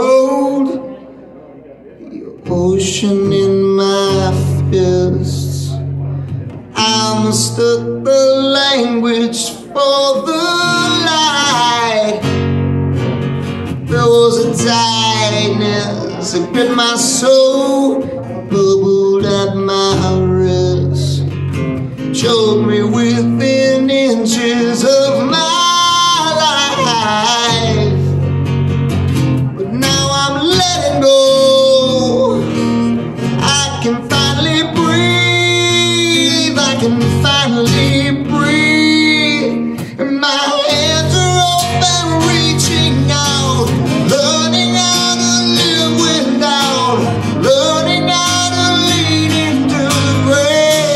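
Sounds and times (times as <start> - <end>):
man singing into a microphone: 0.0 - 1.0, 2.0 - 12.8, 13.6 - 28.4, 29.4 - 50.9
acoustic guitar strumming: 2.2 - 50.9.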